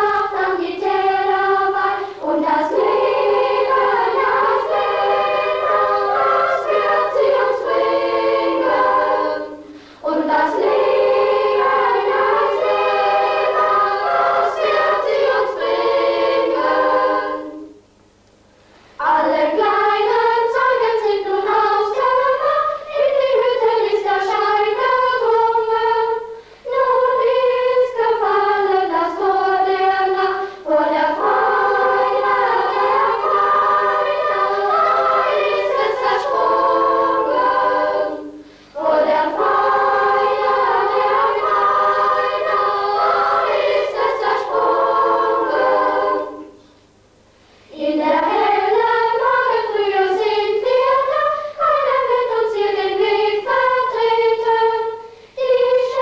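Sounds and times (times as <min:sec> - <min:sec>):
choir singing: 0:00.0 - 0:17.8, 0:19.0 - 0:46.7, 0:47.7 - 0:56.0.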